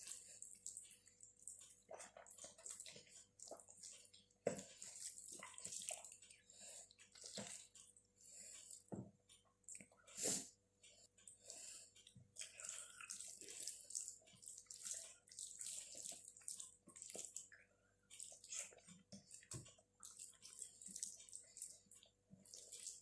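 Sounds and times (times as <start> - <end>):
wet chewing and lip-smacking: 0.0 - 10.2, 11.0 - 23.0.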